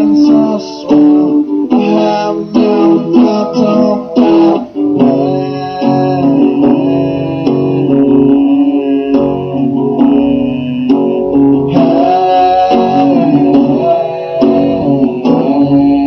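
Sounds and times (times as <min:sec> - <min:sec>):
live rock music with guitar: 0:00.0 - 0:16.0.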